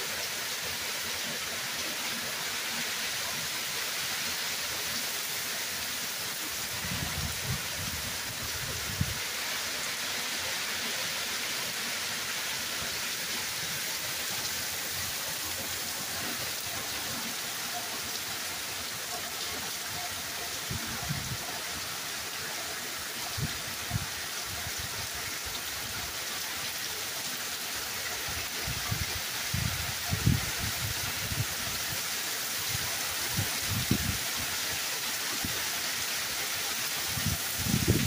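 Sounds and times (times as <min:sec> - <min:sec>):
hard rain falling: 0:00.0 - 0:38.0.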